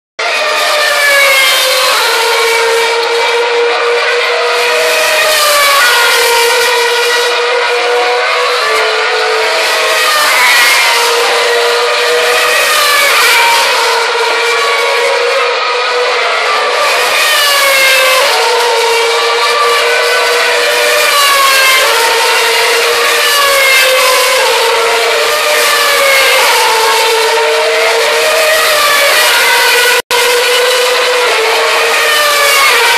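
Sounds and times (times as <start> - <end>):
racing car engines screaming: 0.2 - 32.9.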